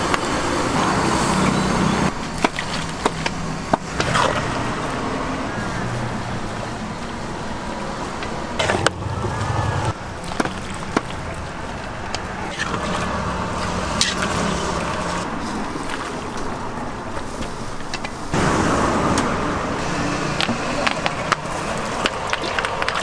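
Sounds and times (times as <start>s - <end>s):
roadside traffic: 0.0s - 23.0s.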